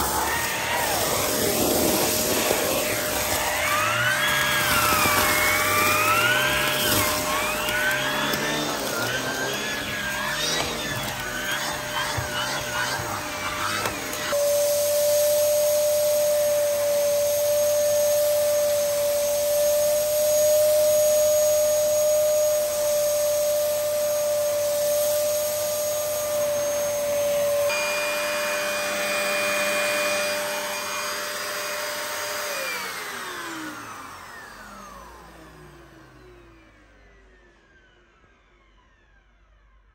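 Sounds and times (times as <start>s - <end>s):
vacuum sucking up cornflakes: 0.0s - 20.0s, 22.6s - 35.0s
vacuum cleaner running: 0.0s - 39.6s.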